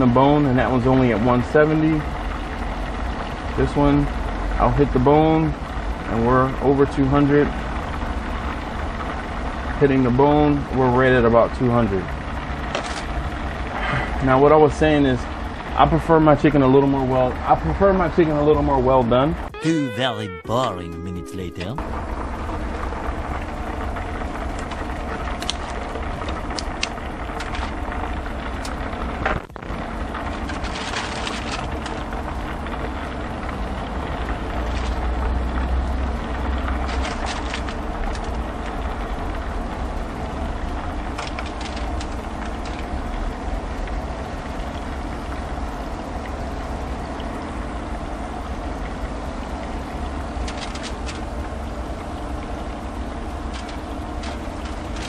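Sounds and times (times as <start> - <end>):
oil crackles and pops: 0.0 - 14.3, 22.0 - 55.0
deep-frying sizzle: 0.0 - 19.6, 21.1 - 55.0.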